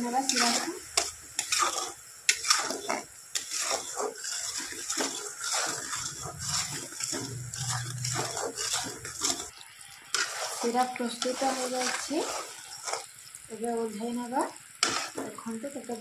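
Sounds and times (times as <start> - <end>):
metal spatula scraping steel pan: 0.0 - 9.5, 10.1 - 13.1, 14.8 - 15.4
syrup boiling: 0.0 - 16.0.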